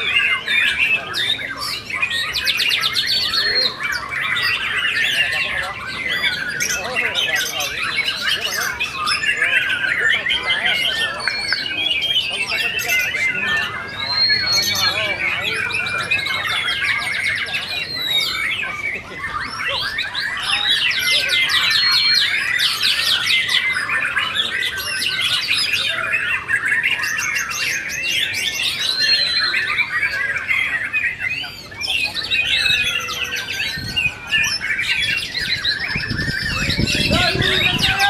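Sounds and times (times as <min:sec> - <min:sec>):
birds singing trills and whistles: 0:00.0 - 0:38.0.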